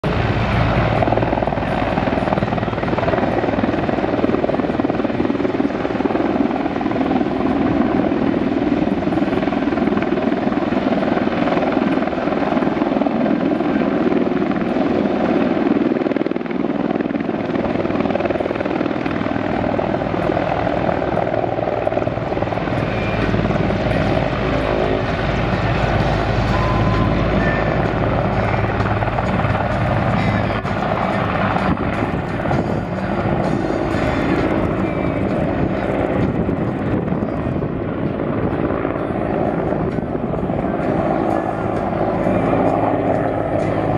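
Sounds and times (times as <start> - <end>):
helicopter engines and rotor: 0.0 - 43.9.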